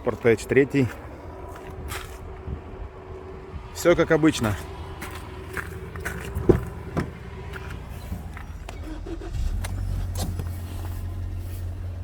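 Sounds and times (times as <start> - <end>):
car engine starting and running: 1.0 - 12.0.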